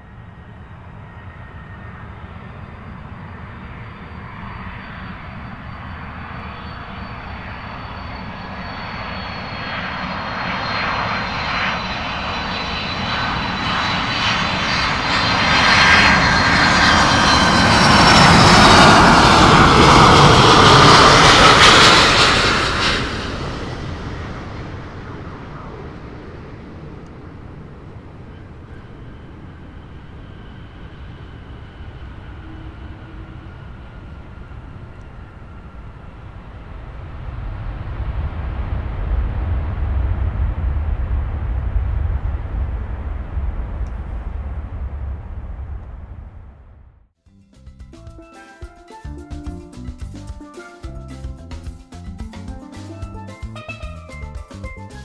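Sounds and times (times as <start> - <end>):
jet plane passing with fan whine: 0.0 - 55.0.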